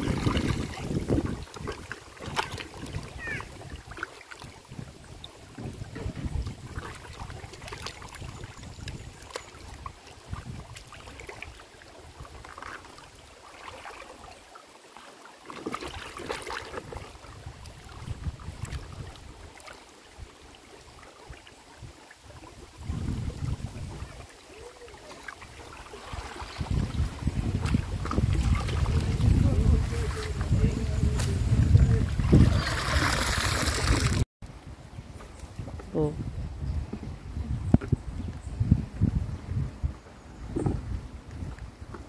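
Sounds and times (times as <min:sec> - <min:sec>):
wind rumbling on microphone: 0:00.0 - 0:12.7, 0:16.6 - 0:19.5, 0:21.2 - 0:42.0
river water splashing: 0:00.0 - 0:34.2.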